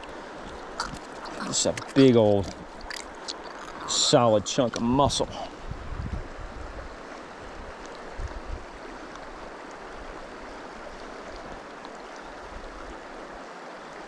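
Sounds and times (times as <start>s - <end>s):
stream water flowing: 0.0s - 14.0s.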